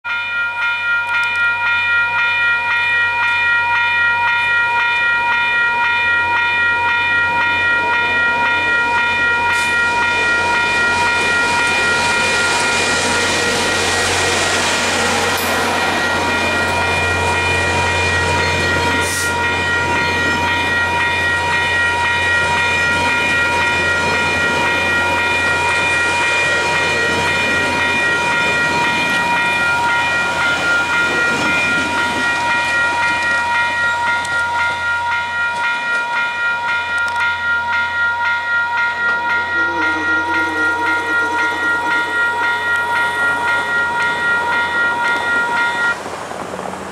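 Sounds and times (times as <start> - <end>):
crossing warning bell ringing: 0.0 - 46.2
train rumbling past: 0.1 - 46.9.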